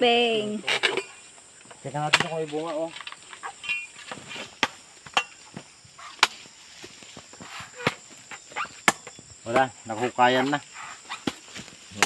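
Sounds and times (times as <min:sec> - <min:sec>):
high-pitched insect buzz: 0:00.0 - 0:12.0.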